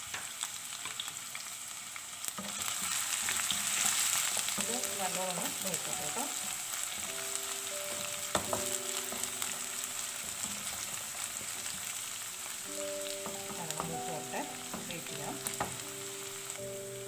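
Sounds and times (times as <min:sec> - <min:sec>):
aromatics sizzling in oil: 0:00.0 - 0:17.0.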